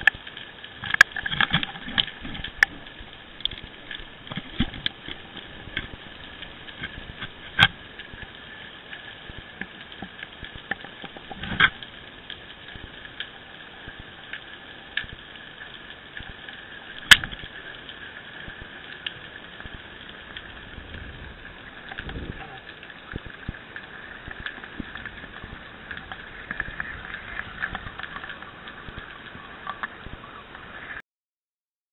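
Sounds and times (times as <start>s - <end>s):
underwater crackle of clicks: 0.0s - 31.0s.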